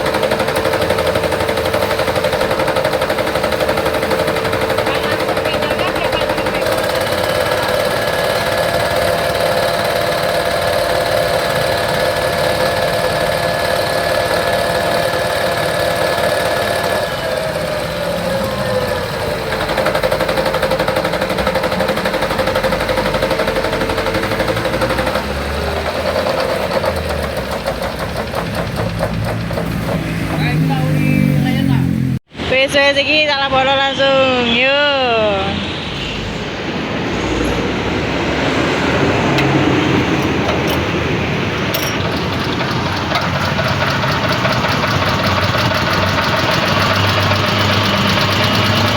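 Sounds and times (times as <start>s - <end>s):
coffee grinder hum: 0.0s - 30.9s, 39.3s - 48.9s.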